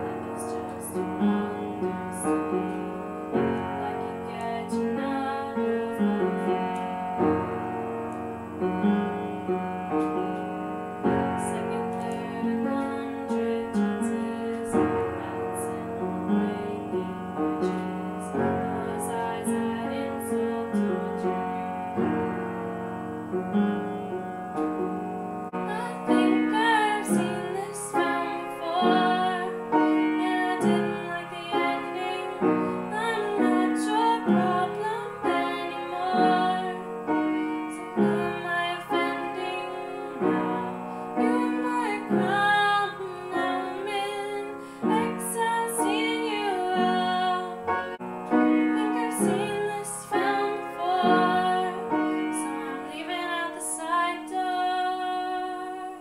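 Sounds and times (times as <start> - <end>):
woman singing: 0.0 - 7.7, 8.6 - 22.3, 25.6 - 56.0
piano chords: 0.0 - 56.0.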